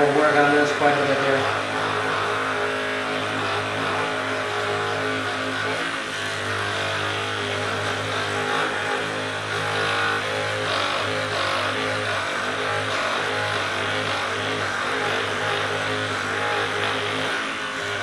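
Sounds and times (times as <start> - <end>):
massage gun motor buzzing: 0.0 - 18.0.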